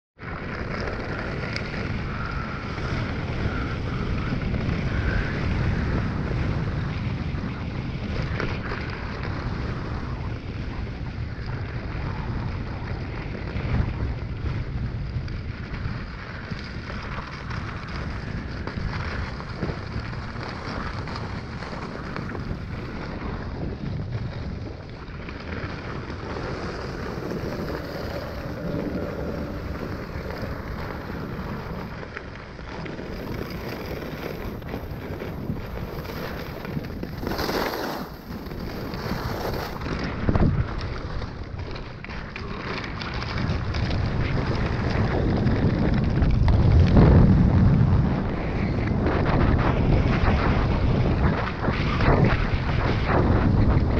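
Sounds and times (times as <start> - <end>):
skis scraping over snow: 0.2 - 53.9
wind on microphone: 0.2 - 53.9.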